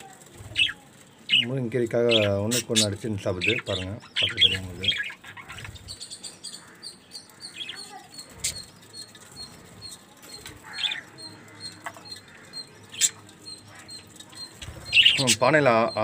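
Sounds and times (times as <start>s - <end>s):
wings fluttering: 0.0s - 3.7s, 4.3s - 15.4s
budgerigars chirping: 0.5s - 16.0s.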